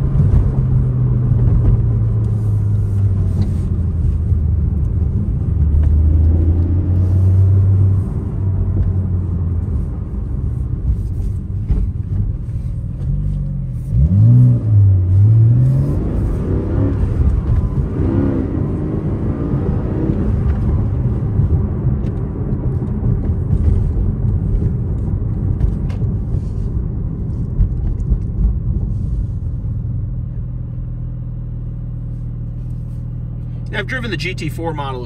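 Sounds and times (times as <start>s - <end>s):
car engine while driving: 0.0s - 35.0s
road and tyre rumble: 0.0s - 35.0s.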